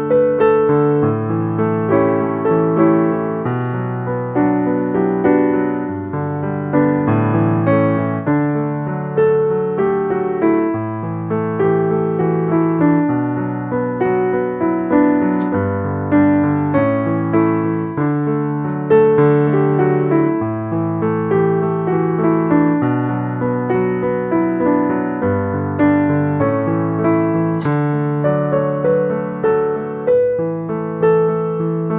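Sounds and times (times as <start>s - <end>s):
gentle piano music: 0.0s - 31.9s.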